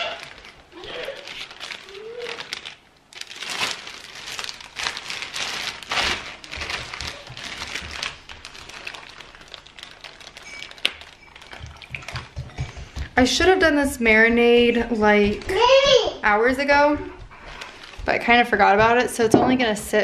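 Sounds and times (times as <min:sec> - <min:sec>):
plastic bag crinkling: 0:00.0 - 0:15.8, 0:16.4 - 0:19.7.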